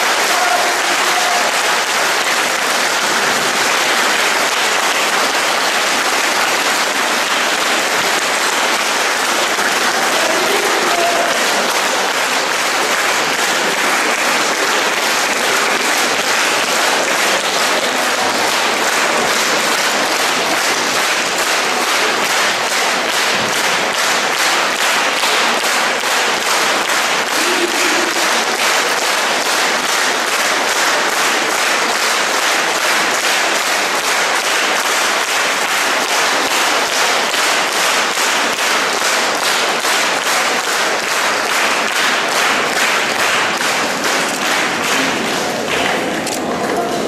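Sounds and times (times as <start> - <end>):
audience clapping in rhythm: 0.0 - 47.0.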